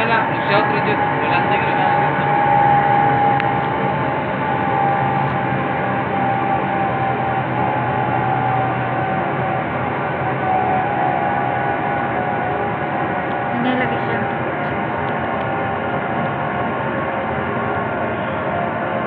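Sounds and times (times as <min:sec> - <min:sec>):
zipline trolley whine on cable: 0:00.0 - 0:19.0.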